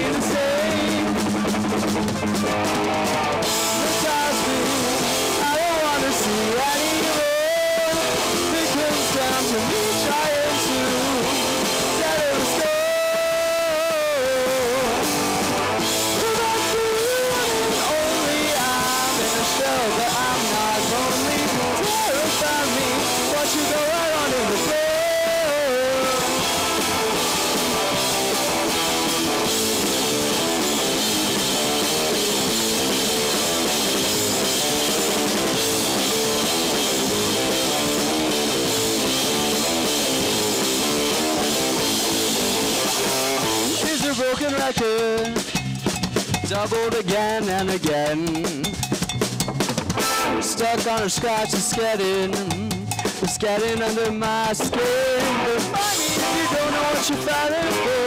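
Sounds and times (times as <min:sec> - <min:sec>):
electric guitar lead bending notes: 0:00.0 - 0:58.0
live rock band playing: 0:00.0 - 0:58.0.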